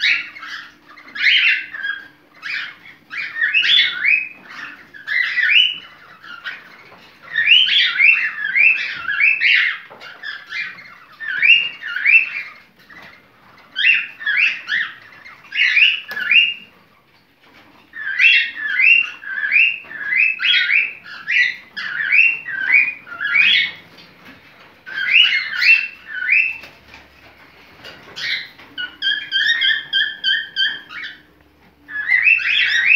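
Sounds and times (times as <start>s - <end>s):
bird chirping: 0.0s - 32.9s.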